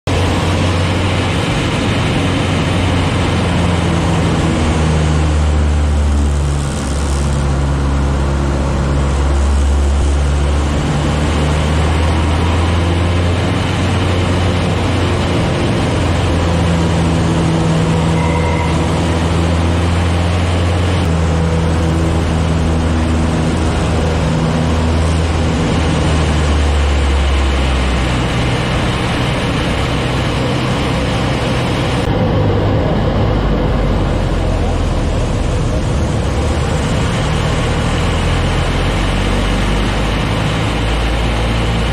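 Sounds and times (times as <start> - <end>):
air noise in cabin: 0.1 - 41.9
aircraft piston engine and propeller droning: 0.1 - 41.9.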